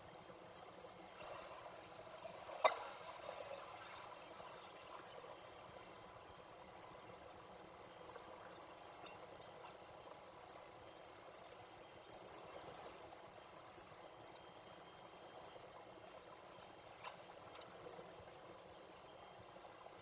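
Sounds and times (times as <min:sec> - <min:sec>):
faint ticks: 0:00.0 - 0:20.0.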